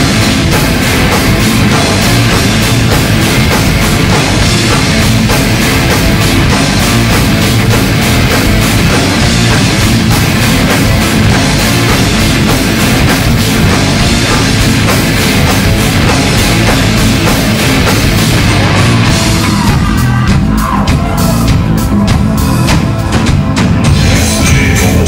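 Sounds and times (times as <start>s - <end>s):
heavy distorted guitars: 0.0s - 25.0s
pounding drum kit: 0.0s - 25.0s.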